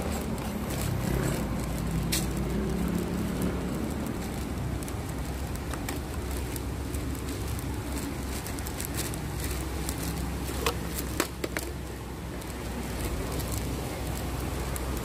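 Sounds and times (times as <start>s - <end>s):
road traffic rumble: 0.0s - 15.0s
vehicle passing: 0.0s - 15.0s.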